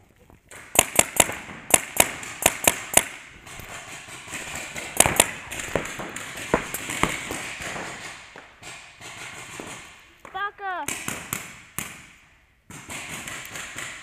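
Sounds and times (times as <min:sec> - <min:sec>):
paintball marker shots: 0:00.5 - 0:14.0.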